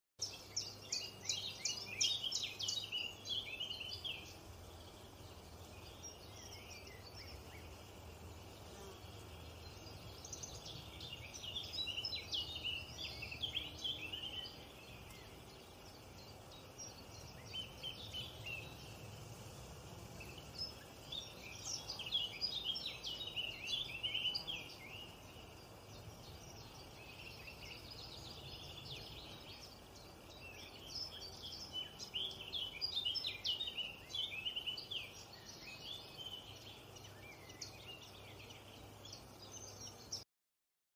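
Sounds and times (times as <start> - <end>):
songbird chirping: 0.2 - 40.2.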